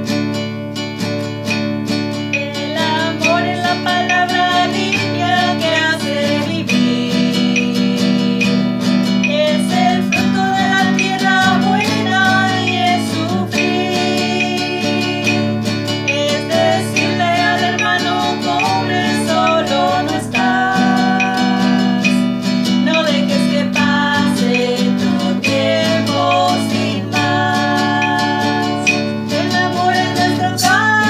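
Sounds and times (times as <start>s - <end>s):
acoustic guitar strumming: 0.0s - 31.0s
woman singing: 2.3s - 31.0s.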